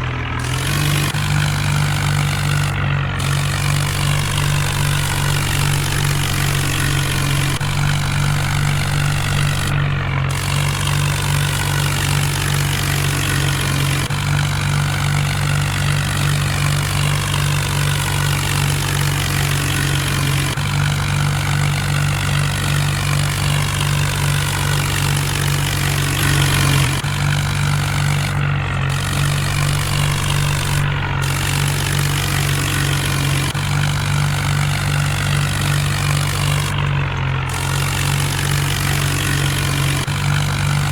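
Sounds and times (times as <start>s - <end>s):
tractor diesel engine running: 0.0s - 40.9s
wavering whine: 0.4s - 18.8s, 20.6s - 40.9s.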